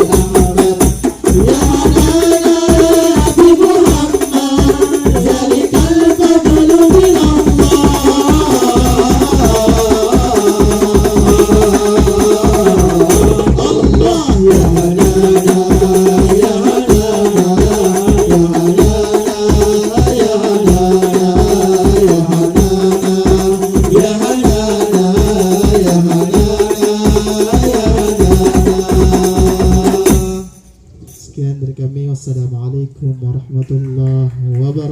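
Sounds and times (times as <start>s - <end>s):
deep bass drum: 0.0s - 30.4s
person singing melody: 0.0s - 30.5s
frame drums: 0.0s - 31.2s
jingling tambourines: 0.0s - 31.4s.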